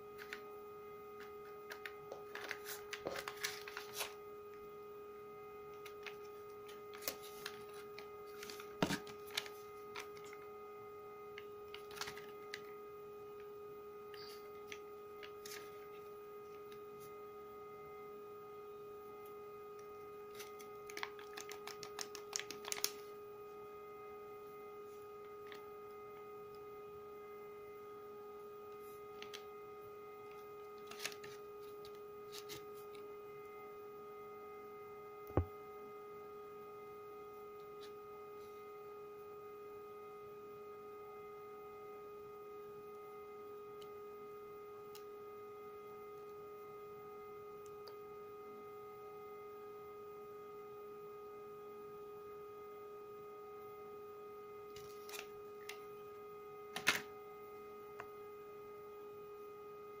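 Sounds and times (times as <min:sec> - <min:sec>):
steady electrical hum: 0:00.0 - 1:00.0.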